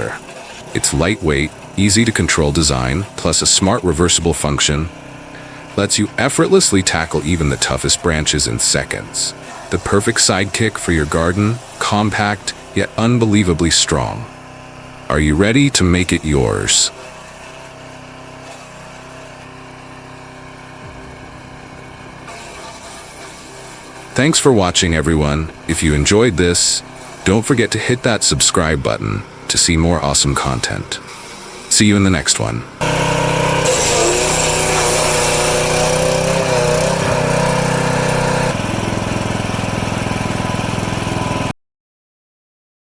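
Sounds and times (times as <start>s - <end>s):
small gasoline engine running: 0.0s - 41.5s.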